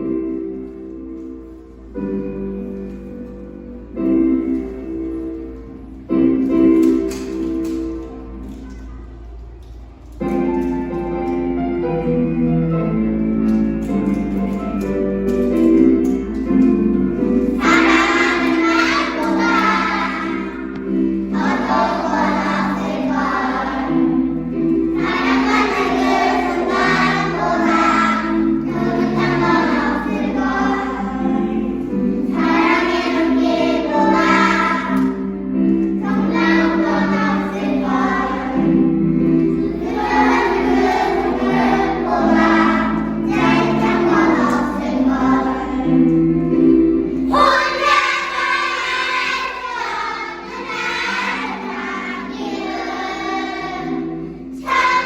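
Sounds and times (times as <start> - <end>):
children's choir singing: 0.0 - 55.0
musical accompaniment low notes: 0.0 - 55.0.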